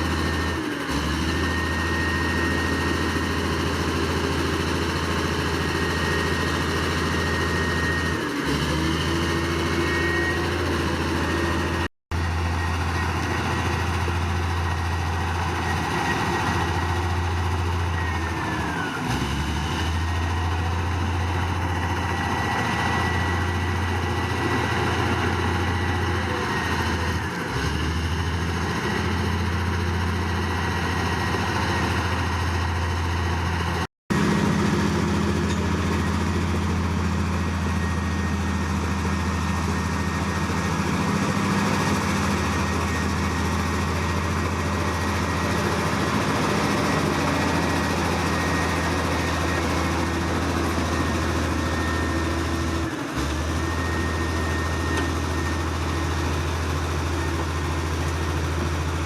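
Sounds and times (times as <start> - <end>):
deep diesel engine drone: 0.0 - 59.0.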